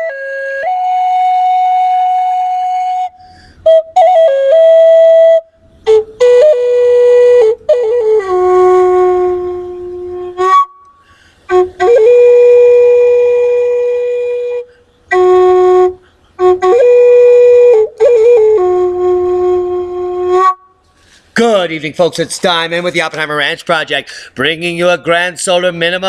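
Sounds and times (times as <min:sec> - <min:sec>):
flute-like wind instrument melody: 0:00.0 - 0:21.0.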